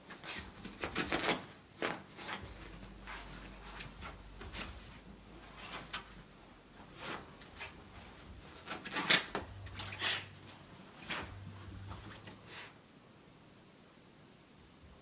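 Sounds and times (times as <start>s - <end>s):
dog rubbing against mattress: 0.1s - 6.2s, 6.8s - 12.8s.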